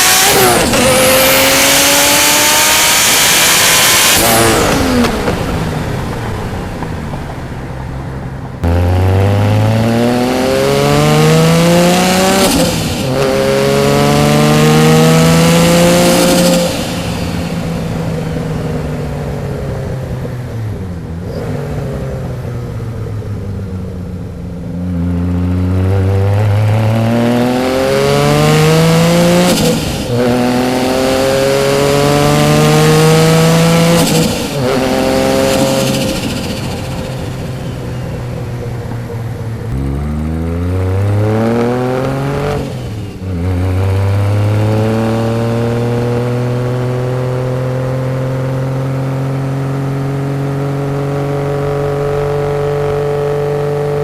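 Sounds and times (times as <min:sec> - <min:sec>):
turbocharged car engine accelerating: 0:00.0 - 0:07.4, 0:08.5 - 0:54.0.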